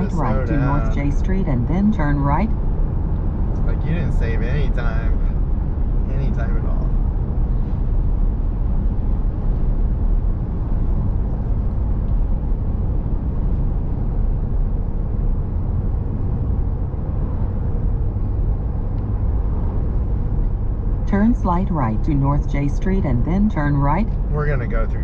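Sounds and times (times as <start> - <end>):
road and engine rumble in vehicle: 0.0 - 25.0.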